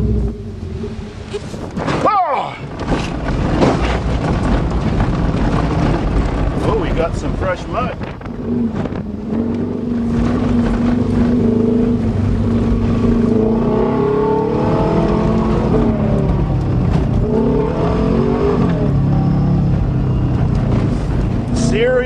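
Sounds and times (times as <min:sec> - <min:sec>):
car engine revving: 0:00.0 - 0:01.8, 0:02.6 - 0:22.0.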